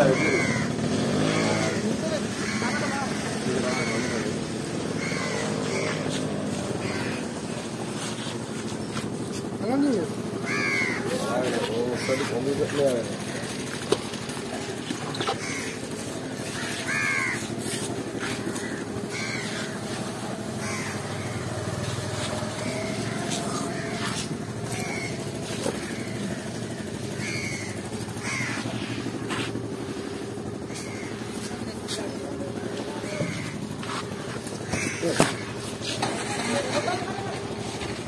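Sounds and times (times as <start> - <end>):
crows cawing: 0.0 - 8.4, 9.7 - 37.9
steady low hum: 3.8 - 38.0.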